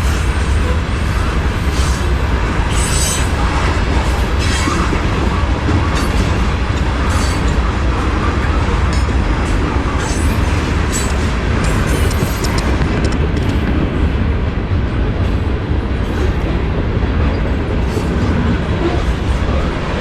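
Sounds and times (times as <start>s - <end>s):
freight train cars rolling past: 0.0s - 20.0s.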